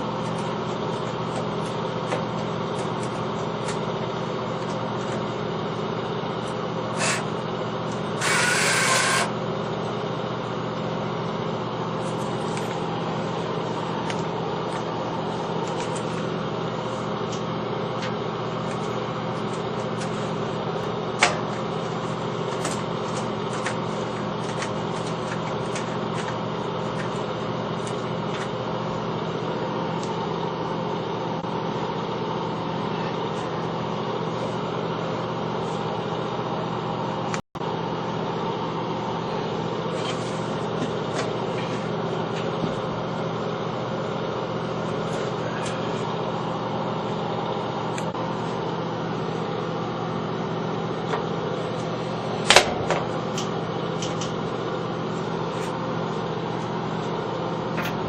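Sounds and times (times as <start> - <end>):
motor humming: 0.0 - 30.8, 39.1 - 58.0.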